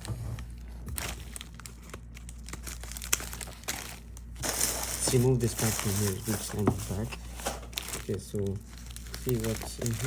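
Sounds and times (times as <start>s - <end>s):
bubble wrap crinkling: 0.0s - 10.0s.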